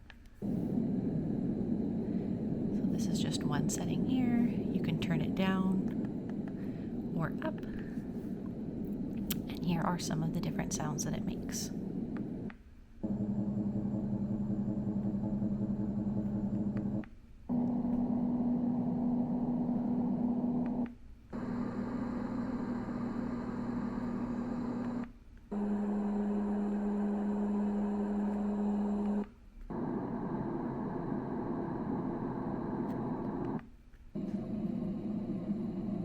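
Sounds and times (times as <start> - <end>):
low hum: 0.0 - 36.0
white noise machine: 0.0 - 36.0.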